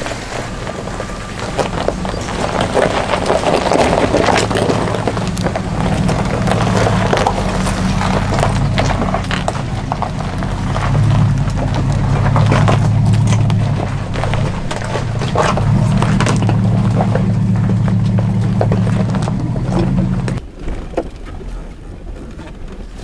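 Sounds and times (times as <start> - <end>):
vehicle engine running: 0.0 - 20.4
vehicle knocks and rattles: 0.0 - 23.0.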